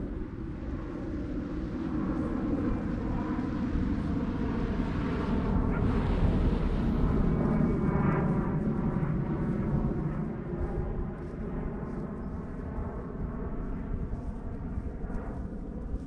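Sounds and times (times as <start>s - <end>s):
distant propeller engine drone: 0.0s - 16.0s
wind buffeting microphone: 0.0s - 16.0s.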